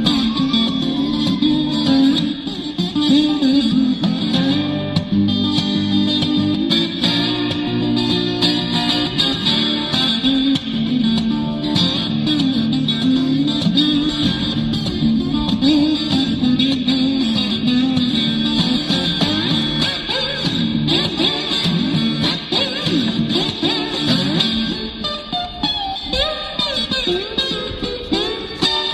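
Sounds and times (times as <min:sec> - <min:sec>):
guitar-led band music: 0:00.0 - 0:28.9.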